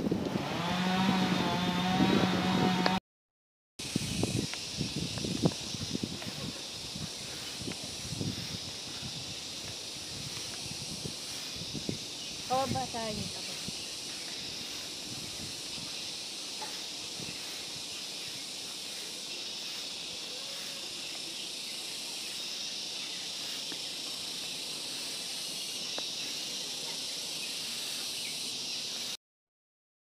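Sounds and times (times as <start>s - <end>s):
high-pitched insect chorus: 3.8s - 29.2s.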